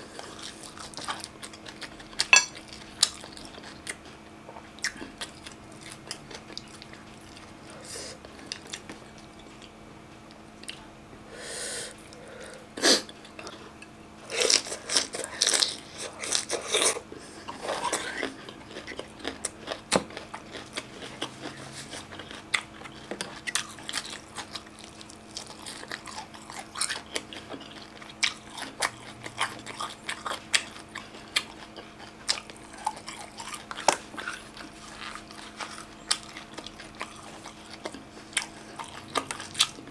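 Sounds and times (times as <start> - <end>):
chewing and crunching food: 0.0 - 10.9, 11.9 - 39.9.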